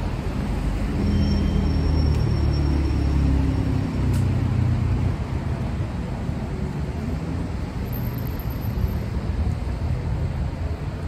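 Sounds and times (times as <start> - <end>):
traffic rumble on wet road: 0.0 - 11.0.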